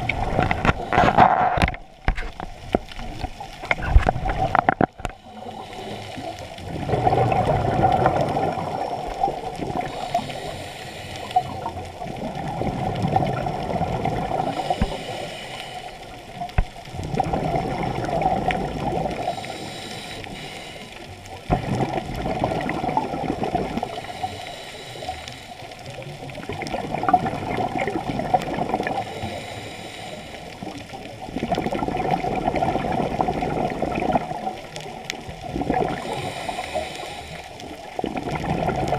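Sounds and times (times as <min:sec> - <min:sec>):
muffled underwater gurgling rush: 0:00.0 - 0:38.9.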